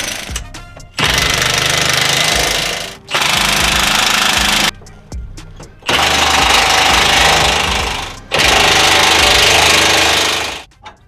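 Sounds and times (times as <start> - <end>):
impact wrench hammering: 0.0 - 4.9, 5.6 - 11.0.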